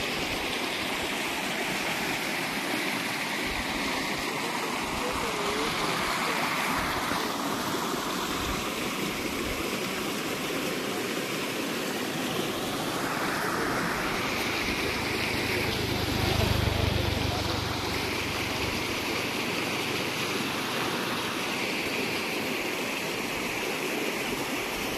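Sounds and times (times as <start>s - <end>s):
stream rushing over rocks: 0.0s - 24.9s.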